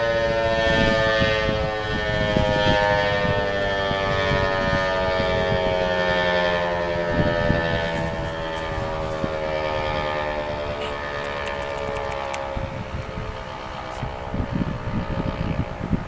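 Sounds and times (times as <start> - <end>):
dual-tone warning siren winding down: 0.0 - 15.9.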